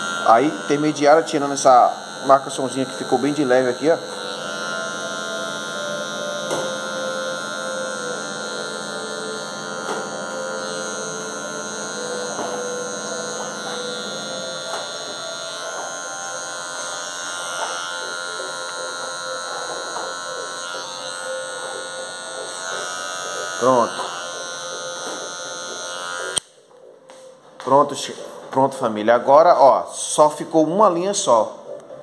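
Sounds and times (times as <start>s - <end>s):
hair clipper running: 0.0s - 26.6s.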